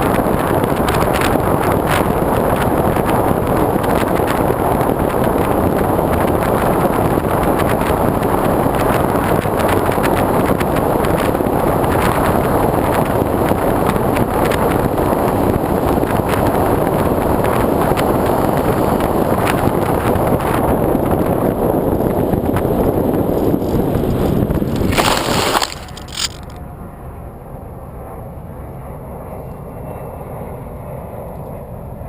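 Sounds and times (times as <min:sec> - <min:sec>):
loud wind noise: 0:00.0 - 0:32.0
plane scraping on landing: 0:00.0 - 0:32.0.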